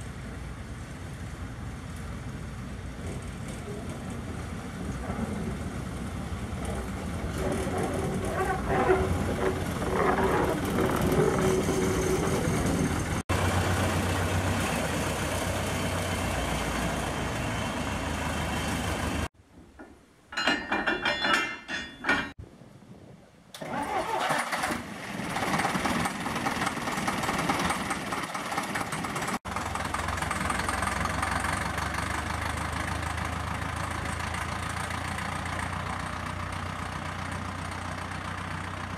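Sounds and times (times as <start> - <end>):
diesel locomotive engine idling: 0.0 - 19.3, 24.9 - 38.9.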